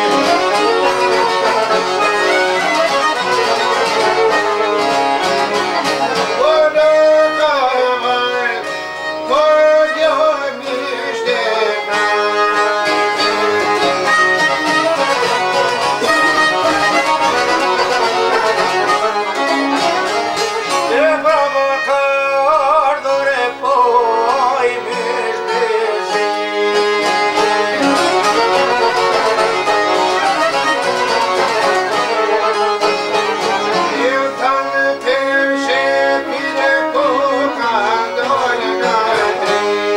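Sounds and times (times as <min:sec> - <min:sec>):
folk violin melody: 0:00.0 - 0:39.9
plucked string accompaniment: 0:00.0 - 0:39.9.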